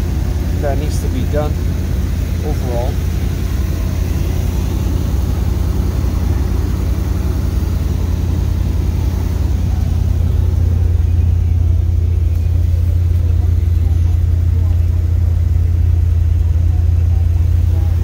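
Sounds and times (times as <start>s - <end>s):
car engine fast idle: 0.0s - 18.0s.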